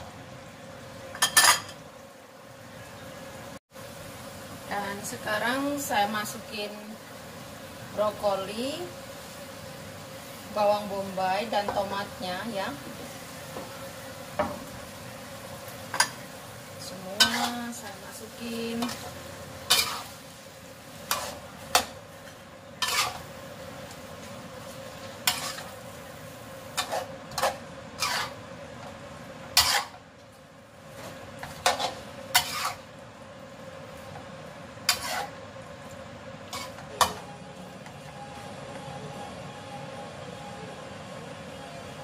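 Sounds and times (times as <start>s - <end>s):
low sizzle: 0.0s - 42.0s.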